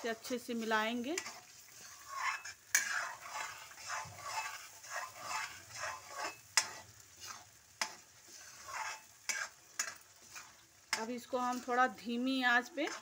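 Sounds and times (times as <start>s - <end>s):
ladle scraping pan: 0.0s - 13.0s
paste frying in oil: 0.0s - 13.0s.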